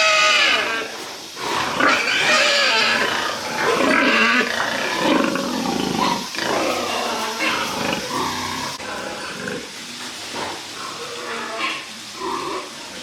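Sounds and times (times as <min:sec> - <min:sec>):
pigs squealing: 0:00.0 - 0:13.0.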